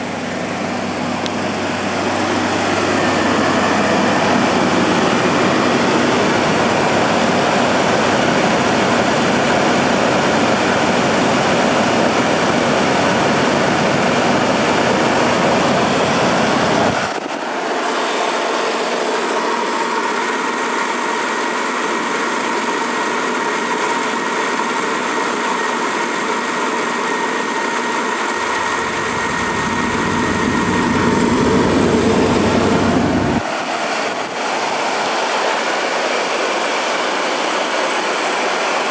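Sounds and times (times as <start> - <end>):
pickup engine idling: 0.0 - 35.6.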